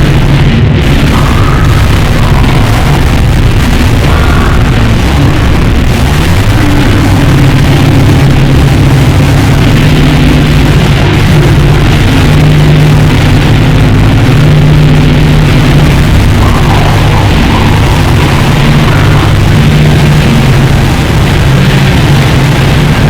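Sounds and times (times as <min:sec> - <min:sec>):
harsh distorted noise music: 0:00.0 - 0:23.0
low droning pitch: 0:00.0 - 0:23.0.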